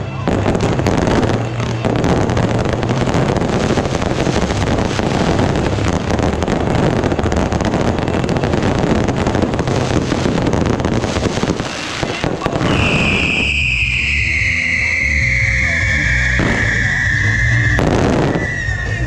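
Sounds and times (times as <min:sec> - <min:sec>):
fireworks bursting and crackling: 0:00.0 - 0:19.0.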